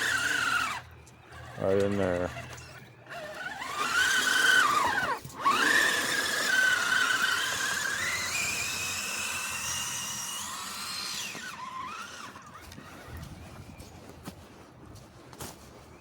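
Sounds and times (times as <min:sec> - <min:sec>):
electric motor and gear whine: 0:00.0 - 0:16.0.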